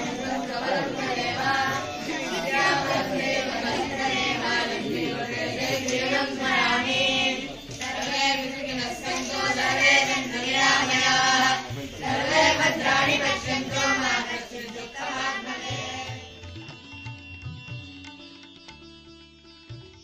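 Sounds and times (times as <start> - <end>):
devotional singing: 0.0 - 16.5.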